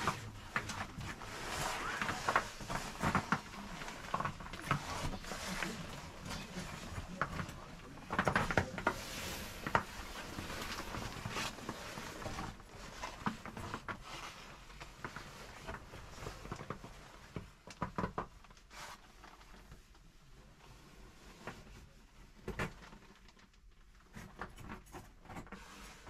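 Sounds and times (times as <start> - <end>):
clothing rustle: 0.0 - 26.0.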